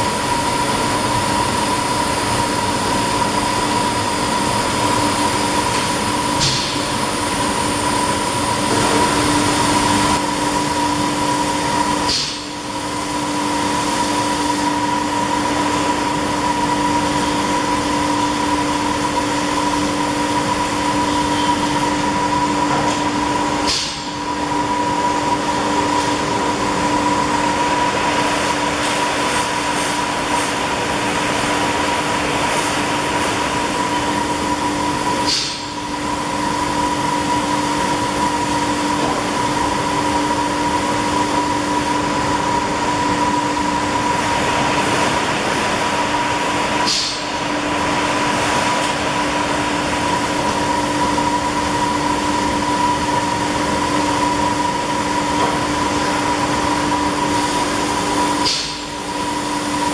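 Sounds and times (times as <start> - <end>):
laser cutting machine running: 0.0 - 59.9.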